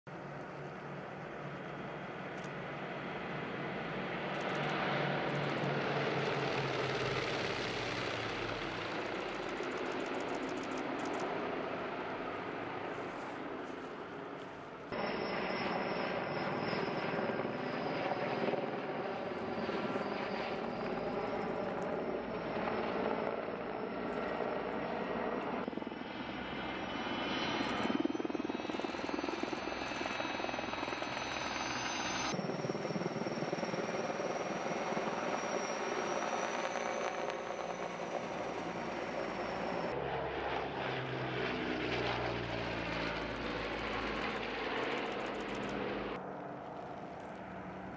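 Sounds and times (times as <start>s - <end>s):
aircraft engines high whine: 0.1s - 47.9s.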